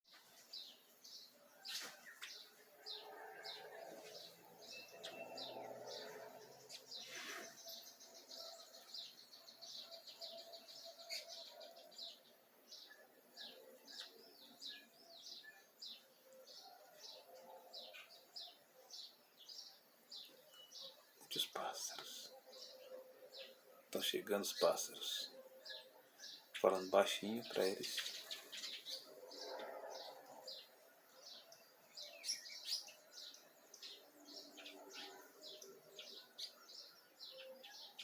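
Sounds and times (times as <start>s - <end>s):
small birds chirping: 0.1s - 38.0s.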